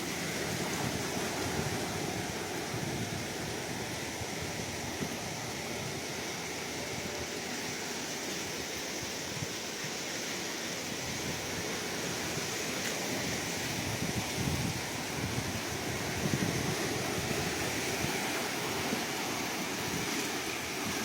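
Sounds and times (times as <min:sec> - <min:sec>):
breaking waves: 0:00.0 - 0:21.0.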